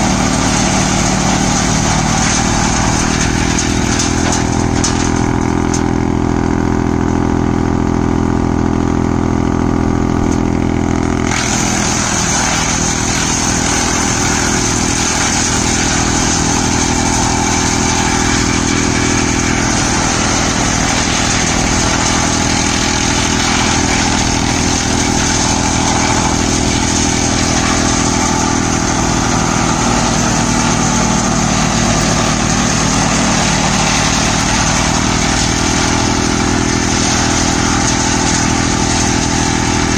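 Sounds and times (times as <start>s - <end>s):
tractor engine drone: 0.0s - 39.9s
wood chipper shredding branches: 0.0s - 39.9s.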